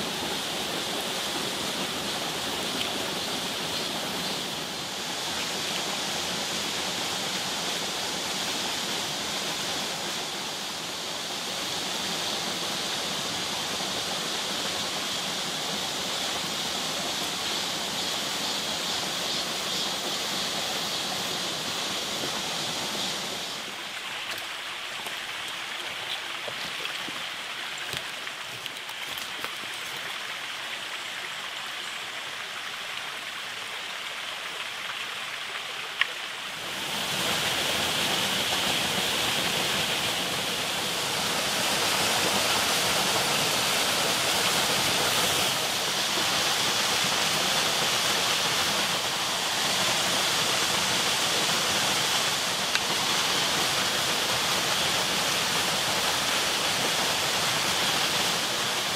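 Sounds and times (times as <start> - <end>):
stream rushing: 0.0 - 58.9.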